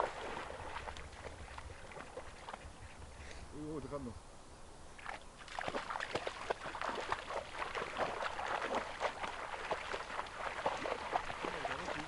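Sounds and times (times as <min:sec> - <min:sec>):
stream water splashing: 0:00.0 - 0:03.0, 0:04.9 - 0:12.0.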